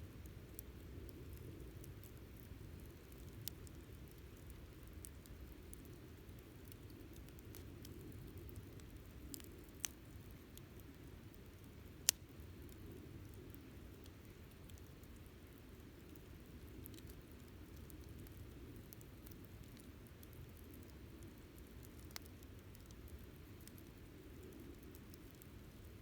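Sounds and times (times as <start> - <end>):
campfire crackling and popping: 0.1 - 26.0.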